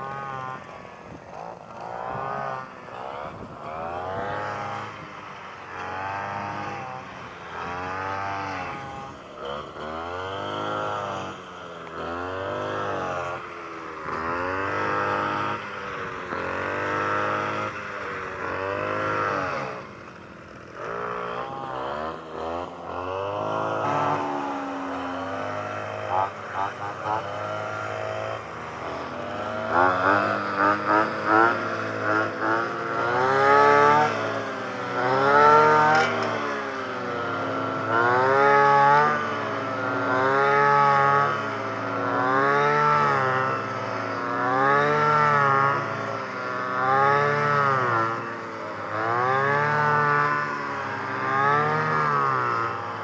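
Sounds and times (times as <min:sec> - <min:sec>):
brush cutter engine revving: 0:00.0 - 0:53.0.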